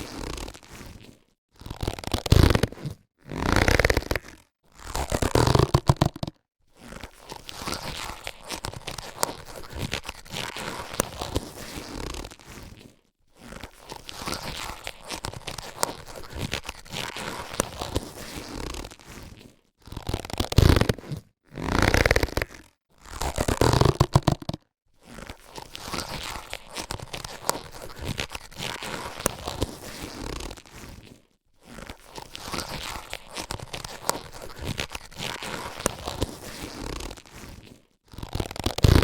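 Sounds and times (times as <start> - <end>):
latex gloves crackling and squeaking: 0.0 - 39.0.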